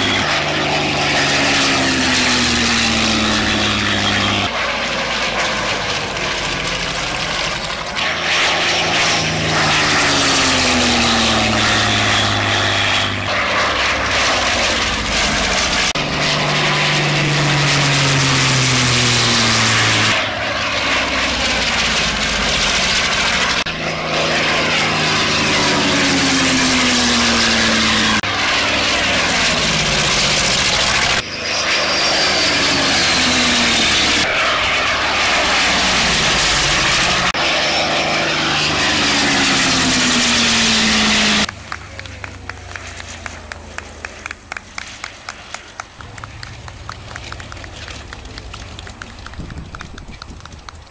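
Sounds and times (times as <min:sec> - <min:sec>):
high falling whine: 0:00.0 - 0:49.4
propeller plane engines flying by: 0:00.0 - 0:50.9.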